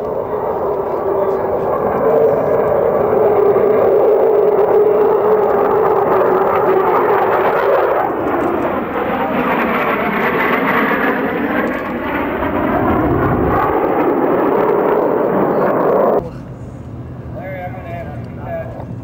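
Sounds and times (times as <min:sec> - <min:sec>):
jet aircraft passing: 0:00.0 - 0:19.0.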